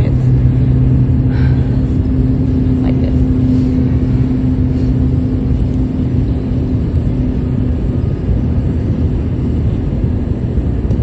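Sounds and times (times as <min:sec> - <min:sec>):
distant engine rumble: 0:00.0 - 0:11.0
droning tone: 0:00.0 - 0:11.0.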